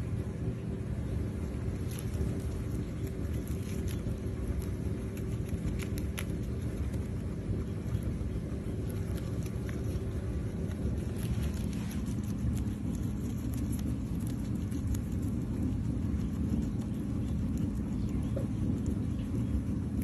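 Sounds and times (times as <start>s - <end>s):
guinea pigs chewing leaves: 0.0s - 20.0s
steady low rumble: 0.0s - 20.0s.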